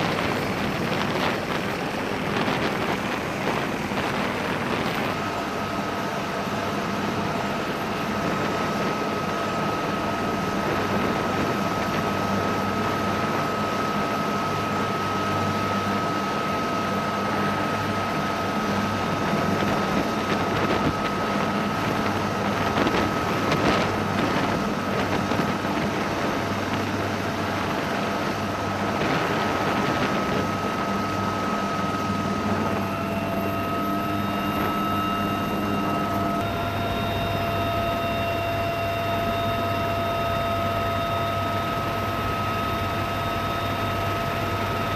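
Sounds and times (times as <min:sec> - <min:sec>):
helicopter engines and rotor: 0:00.0 - 0:44.9.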